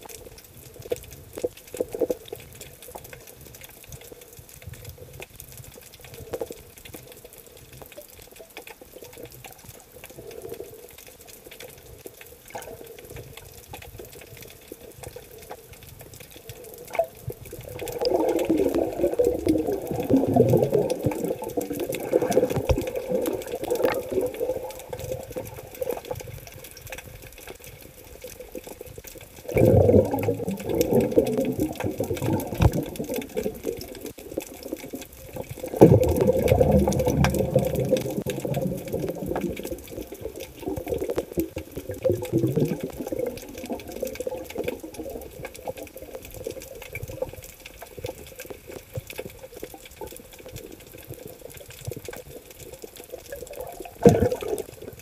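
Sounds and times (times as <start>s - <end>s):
muffled underwater water noise: 0.0s - 55.0s.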